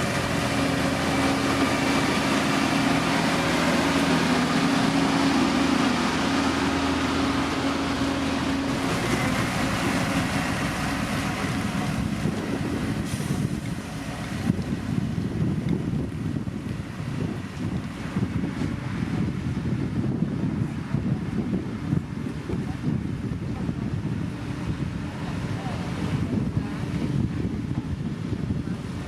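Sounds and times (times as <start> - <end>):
diesel engine running: 0.0 - 29.0
rough rumbling noise: 0.0 - 29.0.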